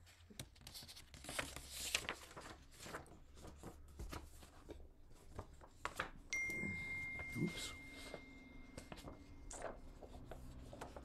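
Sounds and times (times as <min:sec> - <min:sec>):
paper rustling: 0:00.0 - 0:06.3, 0:07.2 - 0:11.0.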